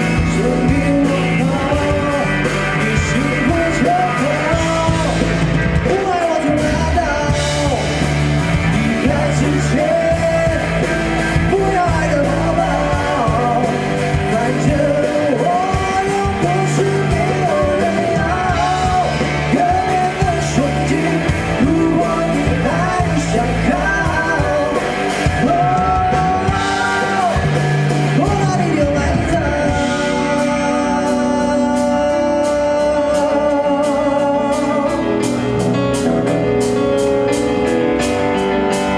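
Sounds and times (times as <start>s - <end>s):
man singing ballad: 0.0s - 36.4s
band with bass line: 0.0s - 38.9s.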